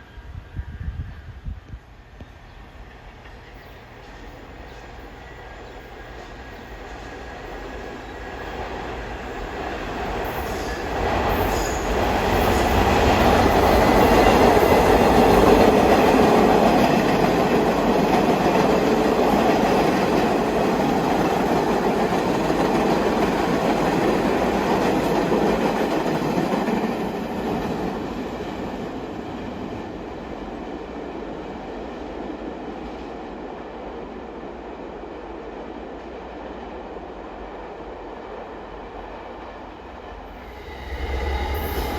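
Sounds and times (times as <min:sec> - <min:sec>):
subway train on tracks: 0:00.0 - 0:41.9.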